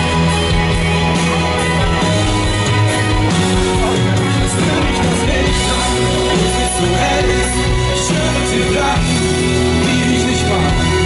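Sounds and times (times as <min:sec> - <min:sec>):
pop-rock band playing live: 0:00.0 - 0:11.0.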